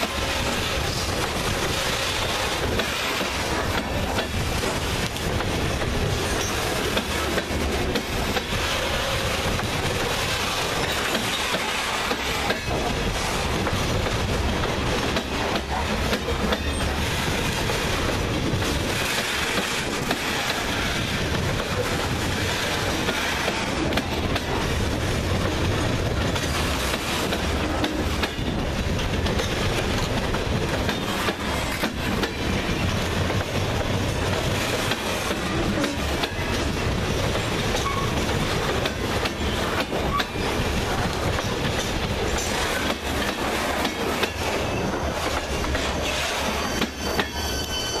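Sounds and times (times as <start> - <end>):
steel wheels rumbling on rail: 0.0 - 48.0
wheels clicking over rail joints: 0.0 - 48.0.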